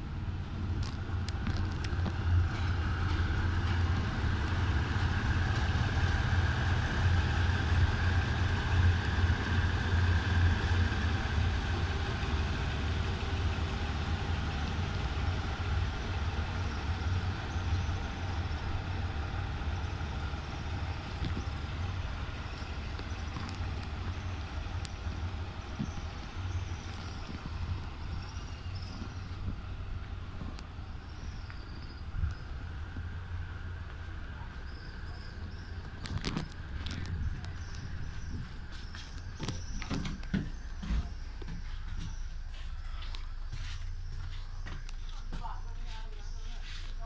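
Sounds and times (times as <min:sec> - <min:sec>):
diesel train engine droning: 0:00.0 - 0:47.0.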